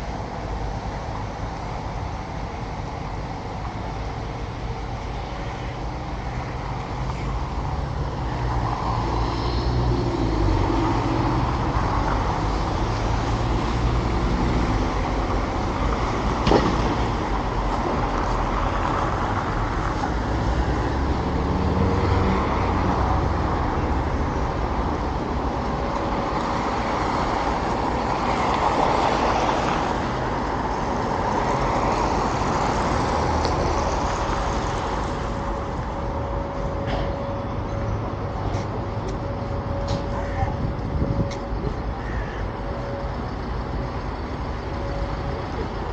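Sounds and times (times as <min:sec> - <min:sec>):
traffic passing: 0:00.0 - 0:45.9.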